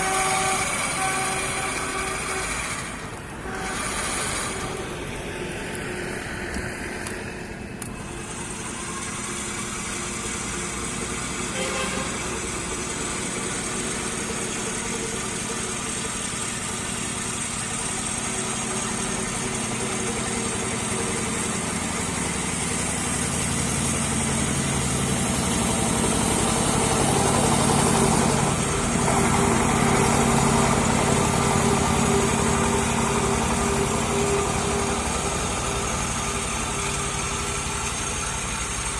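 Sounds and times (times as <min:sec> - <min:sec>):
deeper machine tone: 0:00.0 - 0:38.7
drilling rig machine hum: 0:00.0 - 0:38.9.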